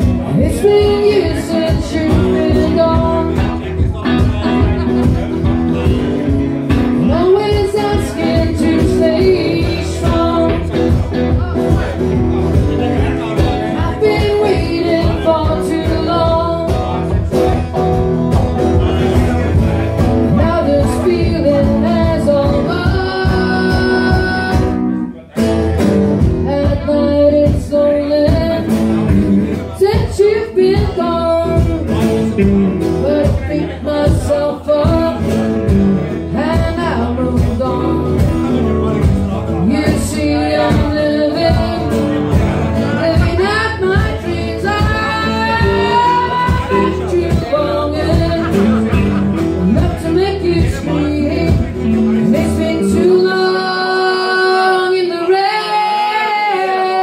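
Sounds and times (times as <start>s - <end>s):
woman singing: 0.0s - 4.7s, 6.8s - 11.8s, 13.3s - 17.2s, 20.2s - 25.0s, 26.4s - 32.2s, 32.8s - 38.6s, 39.5s - 57.0s
electric guitar: 0.0s - 57.0s
strummed acoustic guitar: 0.0s - 57.0s.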